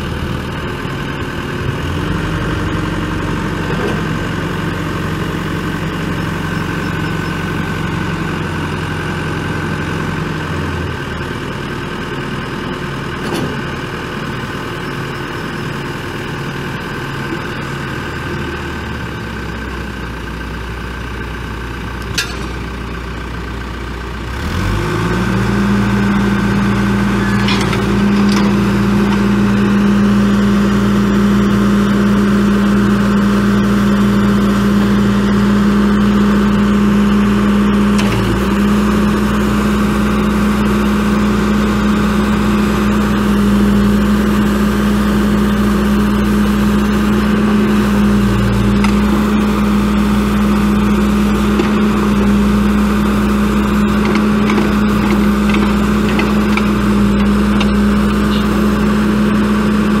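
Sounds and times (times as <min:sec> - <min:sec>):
diesel engine humming: 0:00.0 - 1:00.0.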